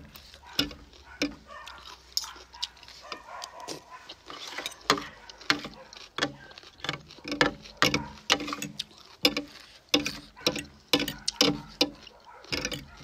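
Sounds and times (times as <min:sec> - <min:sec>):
chewing and lip smacks: 0:00.0 - 0:13.0.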